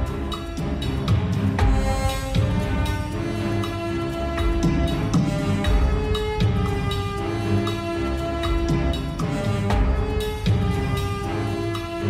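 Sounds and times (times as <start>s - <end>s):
music with held note and pulsing beat: 0.0s - 12.0s.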